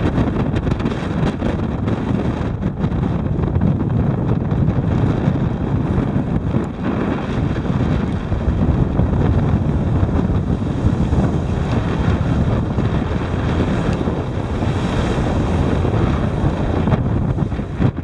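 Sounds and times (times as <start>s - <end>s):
ship's wake washing: 0.0s - 18.0s
wind buffeting microphone: 0.0s - 18.0s.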